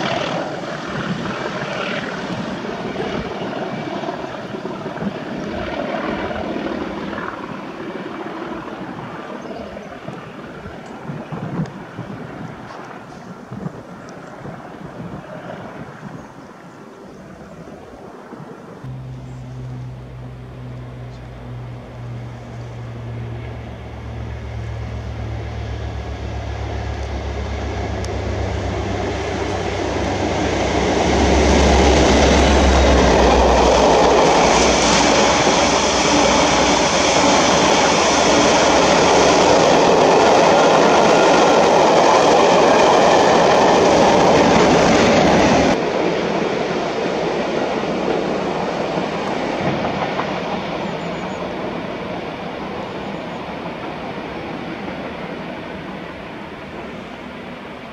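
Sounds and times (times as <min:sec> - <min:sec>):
diesel locomotive approaching: 0:00.0 - 0:57.9
passing train roar: 0:00.0 - 0:57.9.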